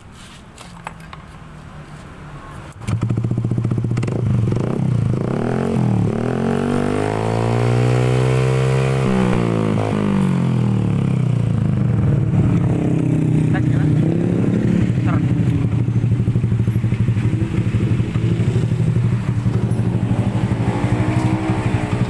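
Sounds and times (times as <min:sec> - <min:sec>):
scooter engine revving: 0:02.8 - 0:22.0.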